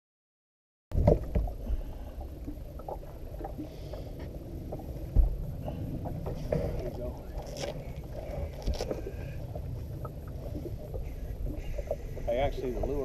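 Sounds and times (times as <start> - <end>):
low rumble of water and wind: 0.9 - 13.0.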